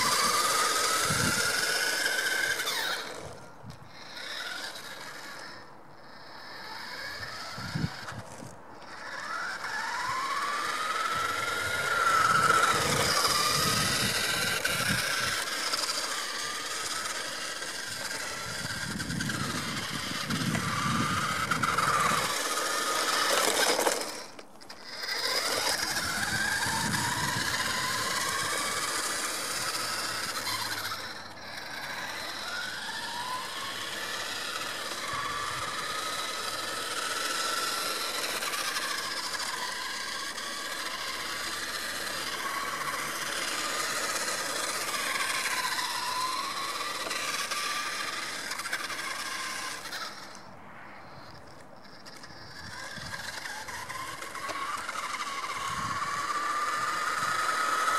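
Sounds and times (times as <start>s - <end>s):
toy truck motor whining: 0.0s - 57.9s.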